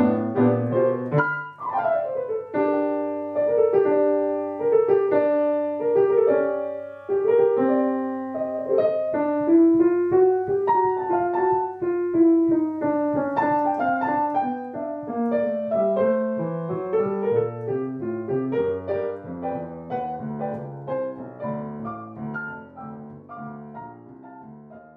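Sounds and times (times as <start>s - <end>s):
gentle piano melody: 0.0s - 24.9s.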